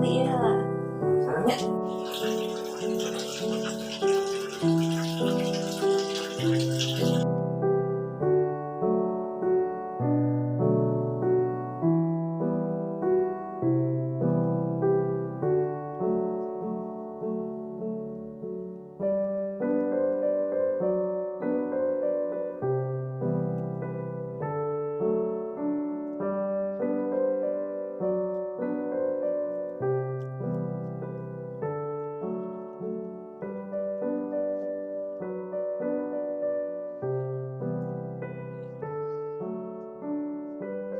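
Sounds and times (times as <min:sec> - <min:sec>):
gentle piano melody: 0:00.0 - 0:40.9.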